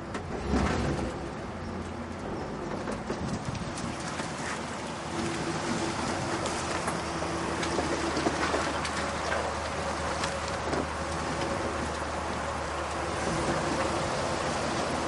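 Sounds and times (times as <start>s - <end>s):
pickup engine hum: 0.0s - 15.0s
tyres crackling over mud and leaves: 0.1s - 15.0s.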